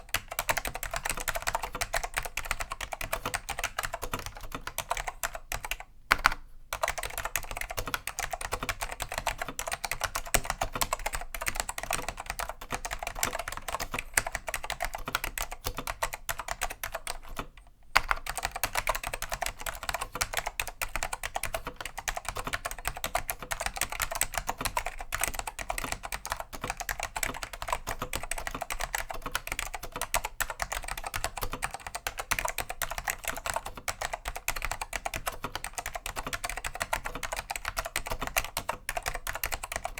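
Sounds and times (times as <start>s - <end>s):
fast typing on clacky keyboard: 0.0s - 39.9s.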